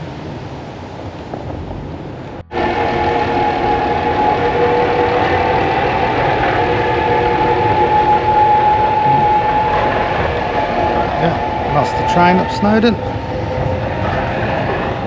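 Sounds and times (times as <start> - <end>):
train engine humming: 2.0 - 15.0.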